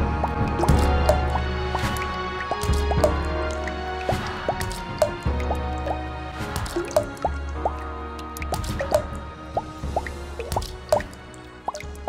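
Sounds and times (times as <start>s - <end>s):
background music: 0.0s - 12.0s
raindrops plinking into water: 0.0s - 12.0s.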